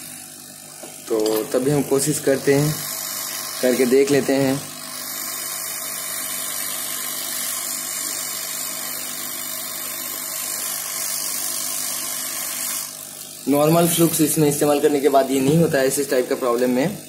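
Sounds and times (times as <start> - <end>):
hot air blower hissing: 0.0 - 17.0.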